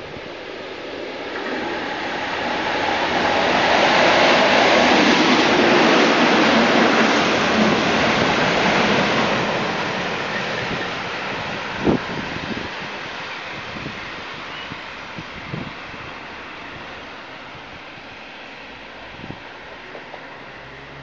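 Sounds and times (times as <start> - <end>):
diesel locomotives passing: 0.0 - 21.0.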